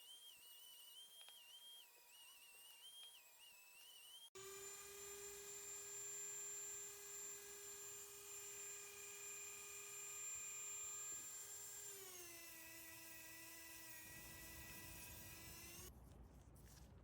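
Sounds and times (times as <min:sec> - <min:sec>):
small electric motor whining: 0:00.0 - 0:15.9.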